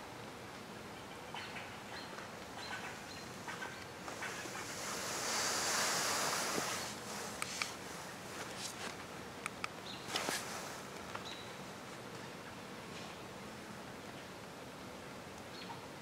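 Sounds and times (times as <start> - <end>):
wind rushing through treetops: 0.0 - 16.0.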